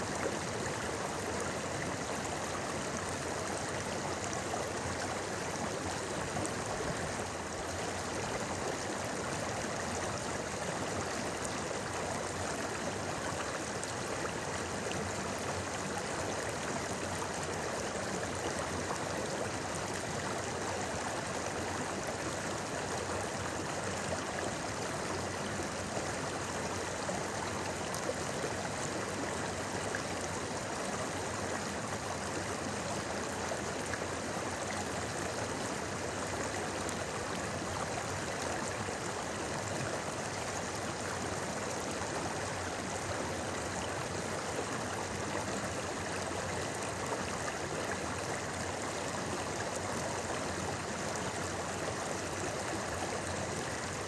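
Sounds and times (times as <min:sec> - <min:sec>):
river water babbling: 0:00.0 - 0:54.0.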